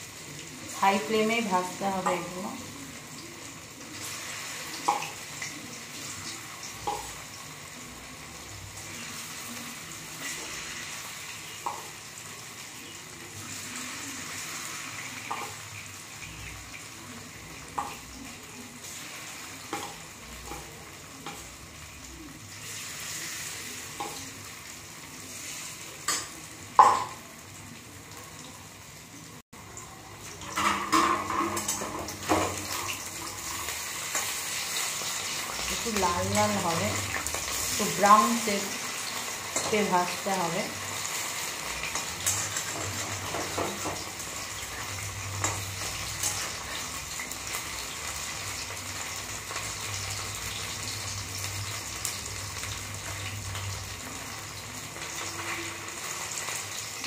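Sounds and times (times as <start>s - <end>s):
paneer sizzling in hot oil: 0.0s - 57.0s.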